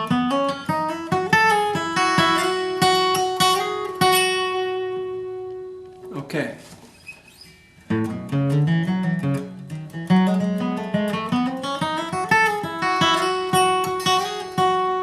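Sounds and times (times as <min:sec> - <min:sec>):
acoustic guitar bluegrass lead: 0:00.0 - 0:15.0.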